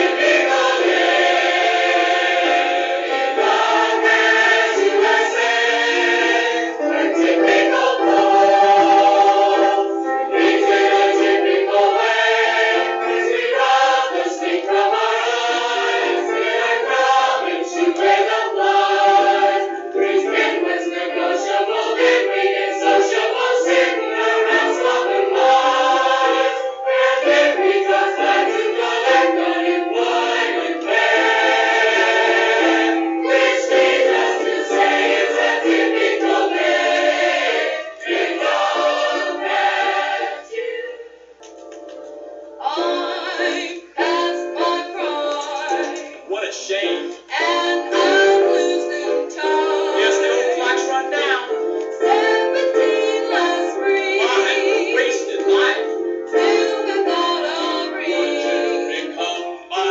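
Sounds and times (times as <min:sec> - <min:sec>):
chorus singing with music: 0:00.0 - 0:59.9.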